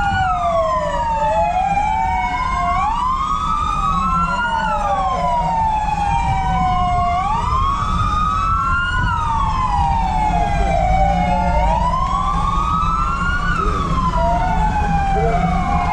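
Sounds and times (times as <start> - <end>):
fire engine sirens wailing: 0.0 - 15.9.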